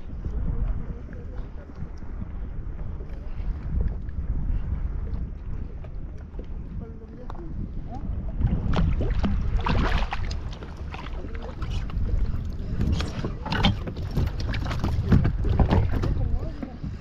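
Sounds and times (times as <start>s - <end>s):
water splashing around kayak: 0.0s - 17.0s
wind rumble on microphone: 0.0s - 17.0s.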